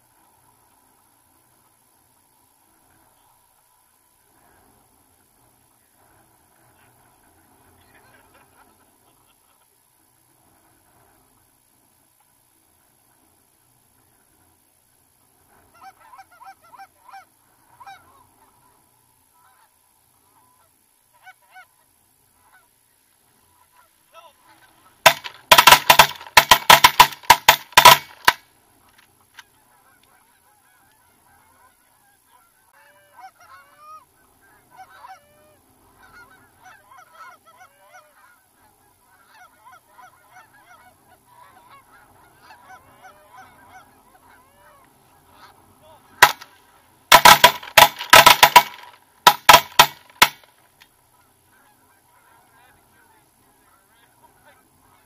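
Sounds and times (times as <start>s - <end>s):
faint calls of goose flock: 0.0s - 55.0s
geese honking close: 0.0s - 55.0s.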